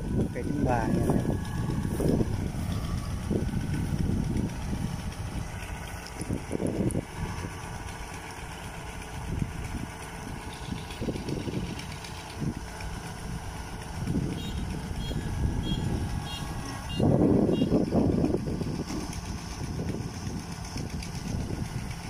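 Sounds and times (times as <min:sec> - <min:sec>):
diesel engine running: 0:00.0 - 0:22.0
wind buffeting microphone: 0:00.0 - 0:22.0.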